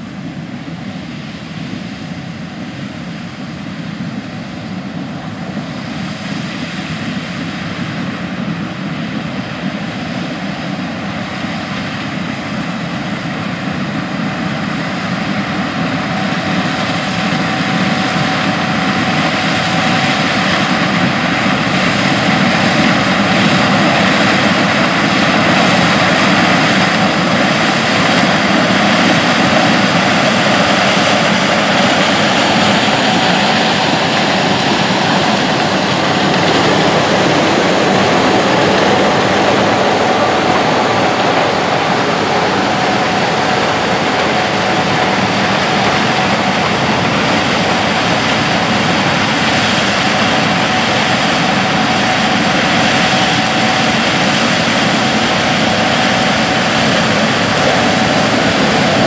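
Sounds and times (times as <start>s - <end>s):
combine harvester running: 0.0s - 59.0s
thin steady whine: 0.0s - 59.0s.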